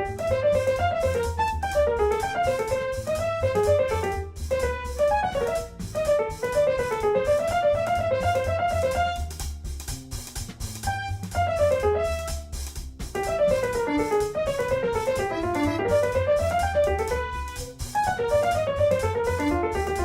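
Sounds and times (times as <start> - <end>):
piano melody with drums and bass: 0.0 - 20.0.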